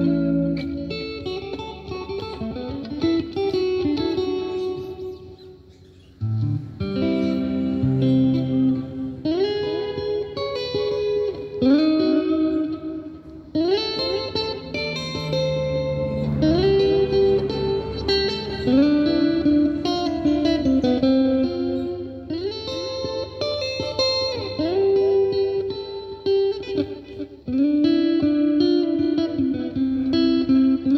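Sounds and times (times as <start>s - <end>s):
electric guitar string bends: 0.0s - 30.9s.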